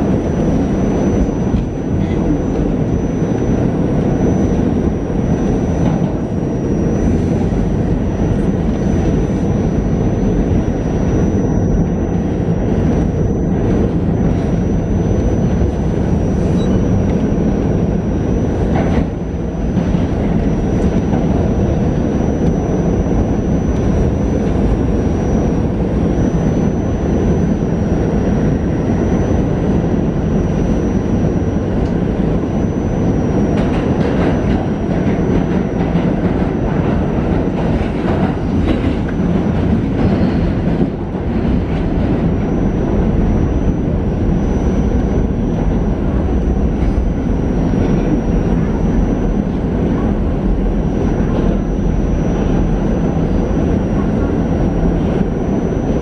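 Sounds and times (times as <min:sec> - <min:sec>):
subway wheels rumbling on rail: 0:00.0 - 0:56.0.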